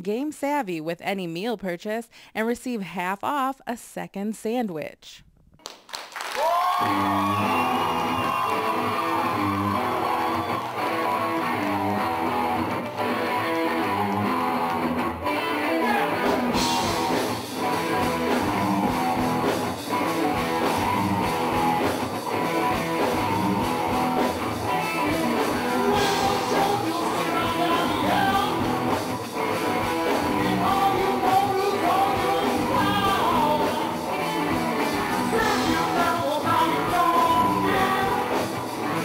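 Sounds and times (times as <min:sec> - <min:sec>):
rock band music: 0:06.8 - 0:39.0.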